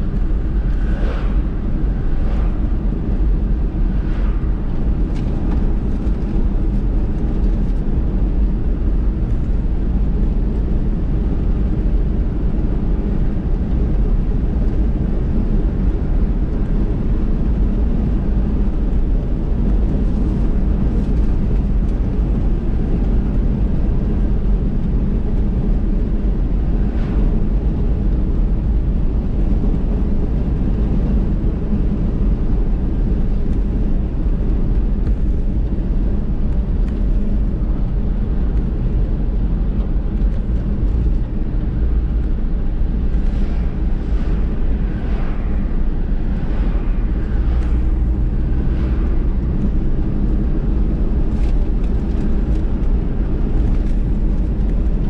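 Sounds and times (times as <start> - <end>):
vehicle engine and tyre rumble: 0.0 - 55.0.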